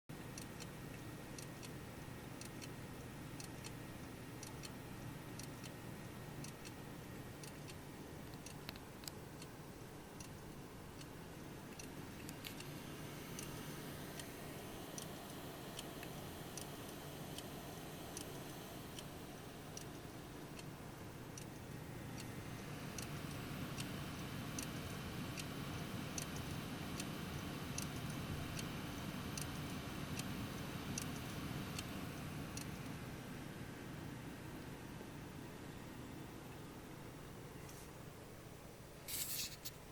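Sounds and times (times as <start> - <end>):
hard disk low hum: 0.1 - 39.9.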